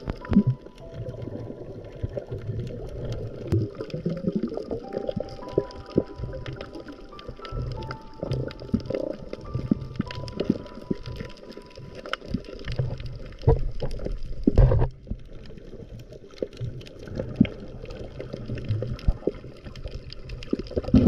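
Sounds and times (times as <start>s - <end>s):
muffled underwater sloshing: 0.0s - 21.0s.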